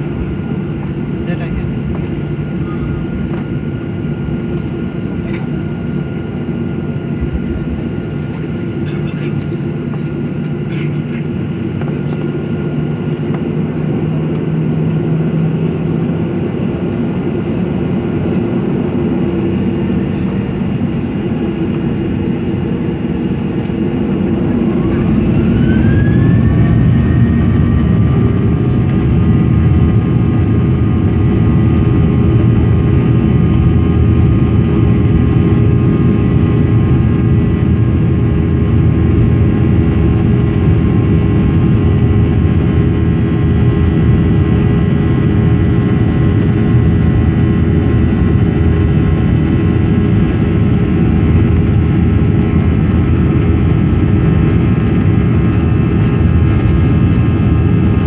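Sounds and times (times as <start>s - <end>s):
jet engine hum in cabin: 0.0s - 58.0s.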